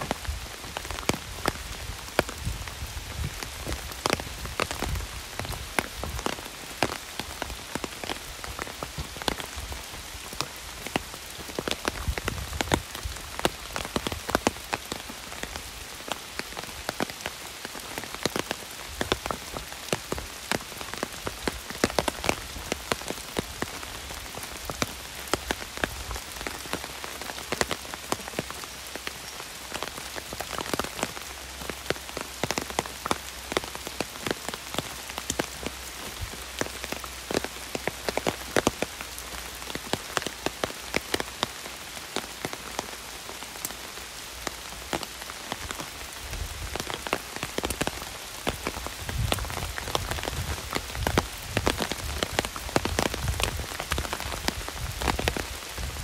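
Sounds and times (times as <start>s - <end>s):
heavy rain hissing: 0.0s - 56.0s
raindrops tapping on umbrella: 0.0s - 56.0s.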